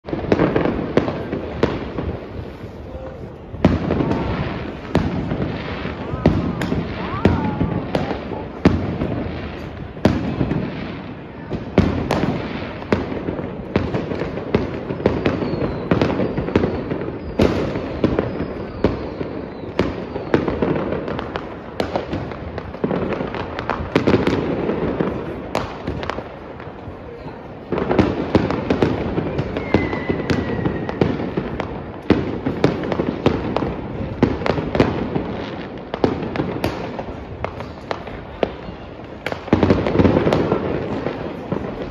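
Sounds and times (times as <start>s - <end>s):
fireworks rumble and crackle: 0.0s - 41.9s
fireworks sharp bangs: 0.0s - 41.9s.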